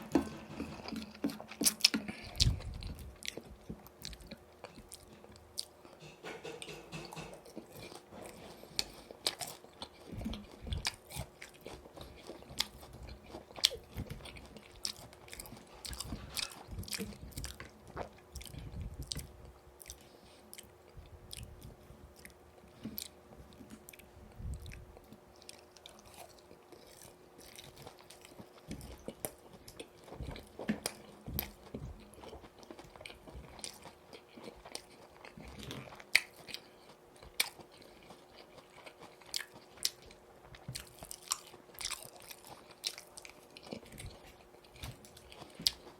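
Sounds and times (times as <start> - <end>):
chewing and crunching fried chicken: 0.0 - 45.9.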